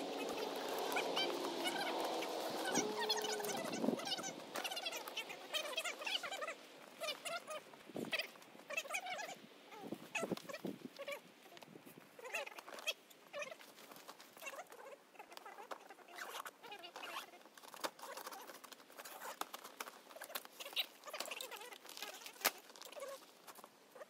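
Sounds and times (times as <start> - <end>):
vinyl banner rustling and crackling: 0.0 - 8.9, 9.8 - 24.0.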